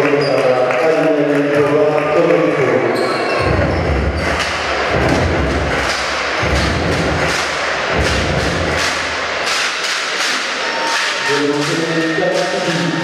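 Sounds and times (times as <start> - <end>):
people clapping: 0.0 - 2.8, 4.3 - 13.0
crowd noise in sports hall: 0.0 - 13.0.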